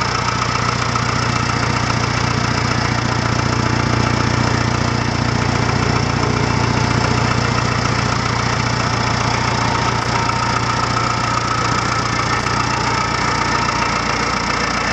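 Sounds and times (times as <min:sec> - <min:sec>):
tractor diesel engine idling: 0:00.0 - 0:14.9.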